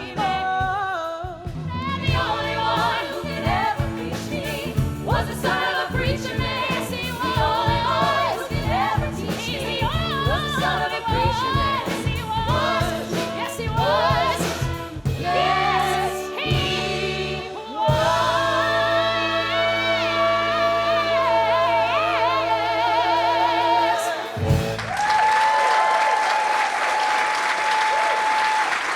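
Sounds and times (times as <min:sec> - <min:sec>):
group singing pop song: 0:00.0 - 0:24.9
live band with steady beat: 0:00.0 - 0:24.9.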